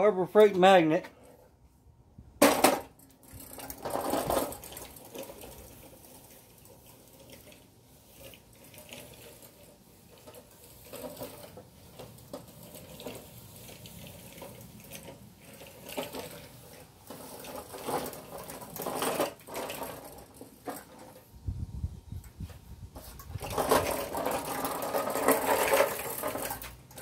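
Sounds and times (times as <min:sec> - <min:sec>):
magnetic sweeper rattling on concrete: 0:02.4 - 0:27.0.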